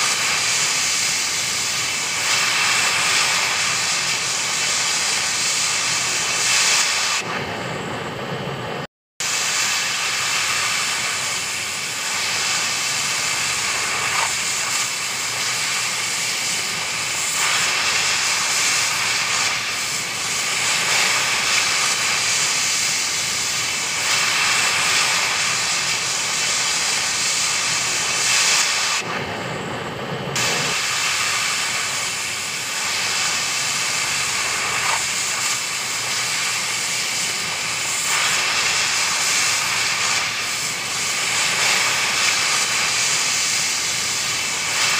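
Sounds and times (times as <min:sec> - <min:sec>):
cutting torch hissing: 0:00.0 - 0:44.9.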